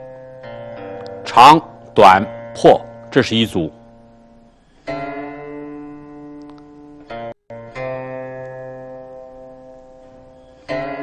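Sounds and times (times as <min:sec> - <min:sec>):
plucked string instrument notes: 0:00.0 - 0:11.0.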